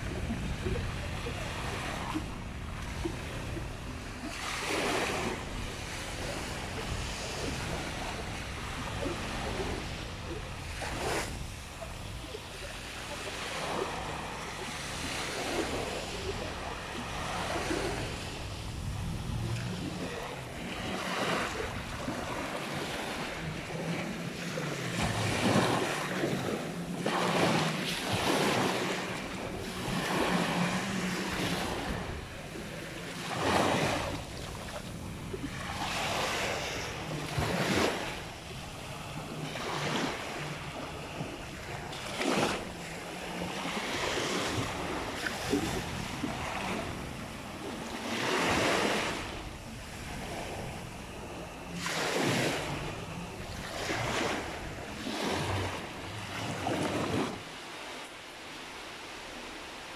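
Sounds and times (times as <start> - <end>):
wind buffeting microphone: 0.0 - 57.5
faint jet ski engine drone: 0.0 - 59.9
waves washing on sandy shore: 0.0 - 59.9.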